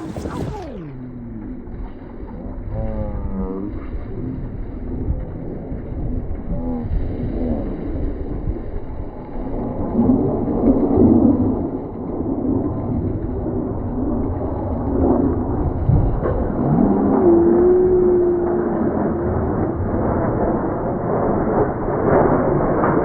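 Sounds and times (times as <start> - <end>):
jet engines rumbling: 0.0 - 23.0
jet passing with falling whine: 0.0 - 23.0.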